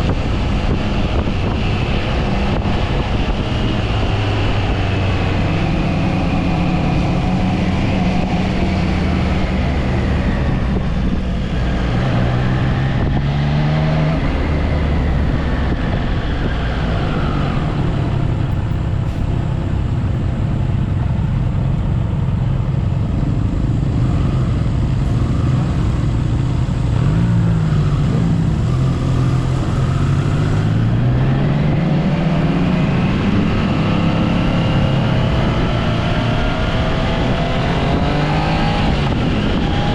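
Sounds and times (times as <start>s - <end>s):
motorcycle engine accelerating: 0.0s - 39.9s
rushing wind noise: 0.0s - 39.9s.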